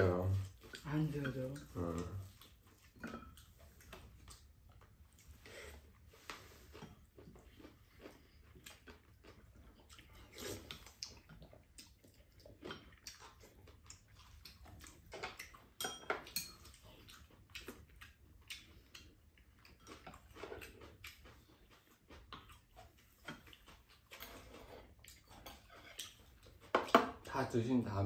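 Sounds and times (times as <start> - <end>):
chewing and mouth noises: 0.0 - 27.8.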